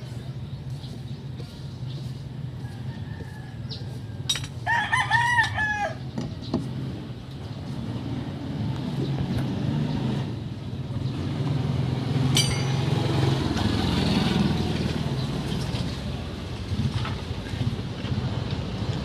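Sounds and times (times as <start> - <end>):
engine humming: 0.0 - 4.7, 5.3 - 19.0.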